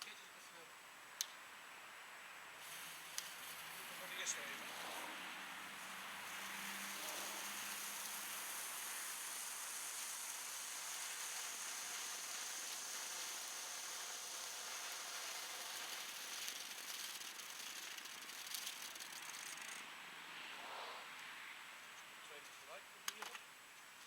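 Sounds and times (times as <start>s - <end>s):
firework hissing and crackling: 2.3s - 23.3s.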